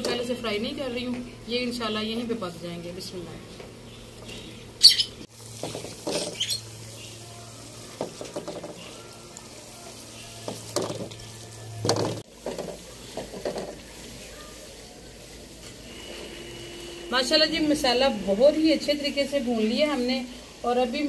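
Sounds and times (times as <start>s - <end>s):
food frying: 3.8s - 21.0s.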